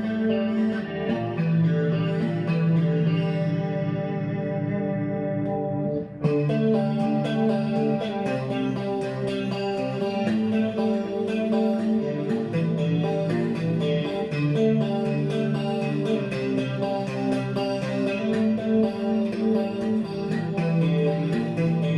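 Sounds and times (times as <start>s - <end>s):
electric guitar with effects: 0.0s - 21.9s.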